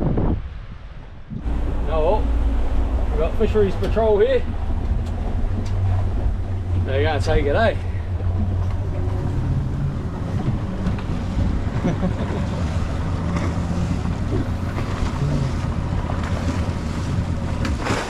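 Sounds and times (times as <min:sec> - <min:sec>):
water rushing past hull: 0:00.0 - 0:18.0
wind buffeting microphone: 0:00.0 - 0:18.0
outboard motor droning: 0:01.3 - 0:18.0.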